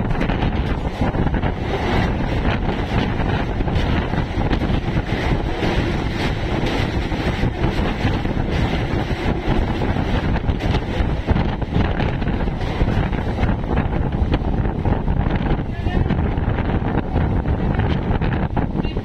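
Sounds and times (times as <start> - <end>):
train wheel and track noise: 0.0 - 19.0
wind buffeting microphone: 0.0 - 19.0.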